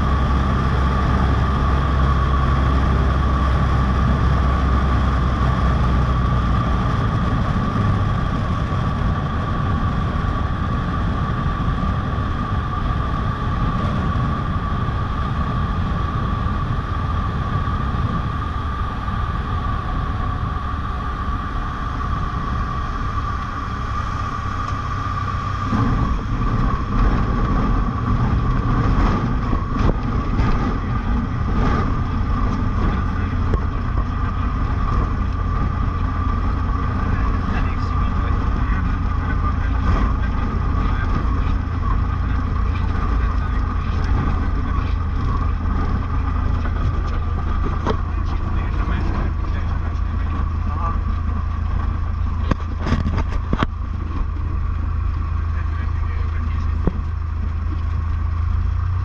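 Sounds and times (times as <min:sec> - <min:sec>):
high whine: 0:00.0 - 0:59.0
plane engine droning in cabin: 0:00.0 - 0:59.0.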